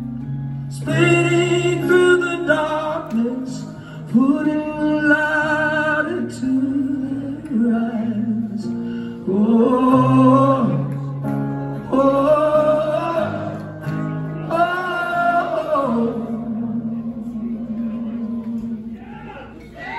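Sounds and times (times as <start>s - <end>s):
acoustic guitar: 0.0s - 19.9s
man singing with vibrato: 0.7s - 19.3s.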